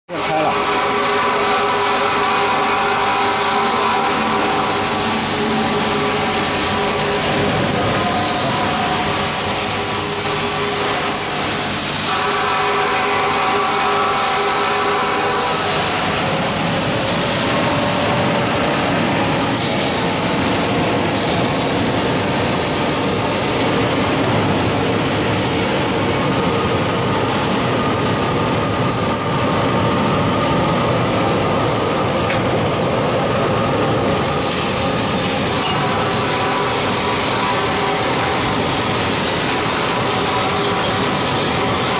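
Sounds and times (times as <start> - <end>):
coffee roaster running: 0.1 - 30.5, 31.2 - 41.9
cooling fan and stirring arms: 0.1 - 41.9.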